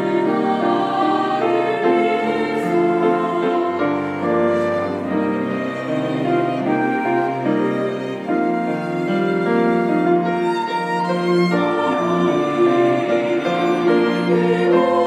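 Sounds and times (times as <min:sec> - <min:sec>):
cello: 0:00.0 - 0:15.0
violin melody: 0:00.0 - 0:15.0
flute: 0:01.6 - 0:15.0.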